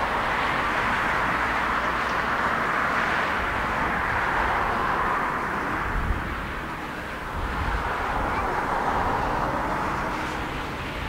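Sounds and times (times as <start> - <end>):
jet engines at takeoff thrust: 0.0 - 11.0.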